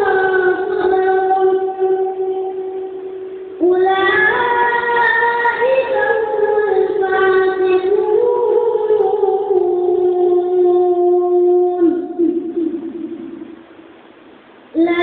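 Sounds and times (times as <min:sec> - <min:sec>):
boy chanting unaccompanied: 0:00.0 - 0:13.6, 0:14.7 - 0:15.0.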